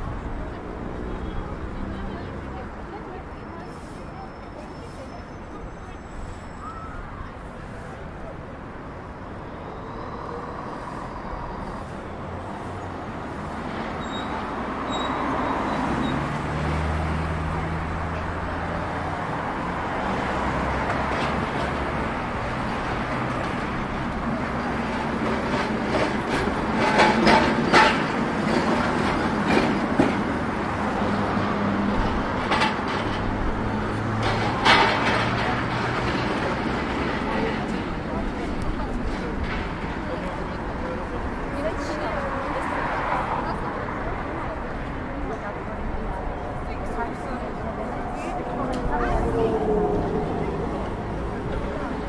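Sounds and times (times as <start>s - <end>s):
passing cars and buses: 0.0s - 52.0s
steady road noise: 0.0s - 52.0s.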